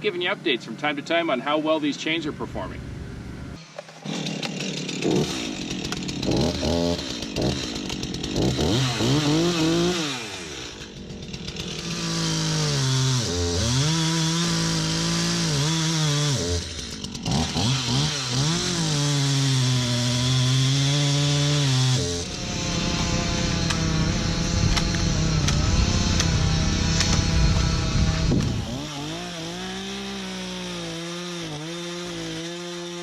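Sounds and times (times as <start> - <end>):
chainsaw cutting wood: 3.6 - 33.0.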